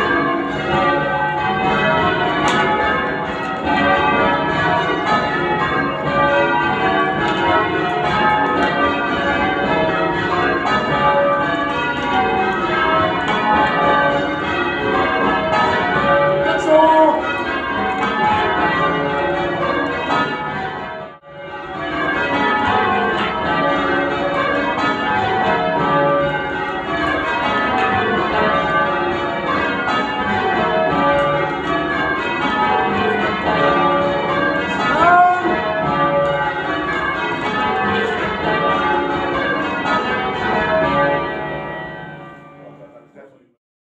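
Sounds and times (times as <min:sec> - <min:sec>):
church bells change ringing: 0:00.0 - 0:43.5.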